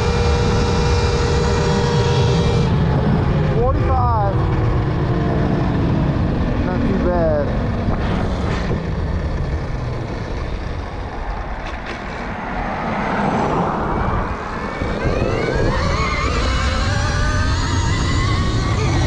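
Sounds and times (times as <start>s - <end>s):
electric motor whine: 0.0s - 11.4s, 14.0s - 19.0s
low riding noise: 0.0s - 19.0s.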